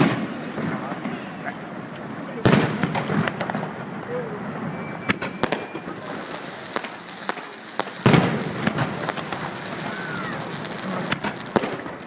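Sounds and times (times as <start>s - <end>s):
loud firework bang: 0.0s - 1.2s, 2.4s - 3.9s, 4.6s - 12.0s
firework pops and crackling: 0.0s - 12.0s.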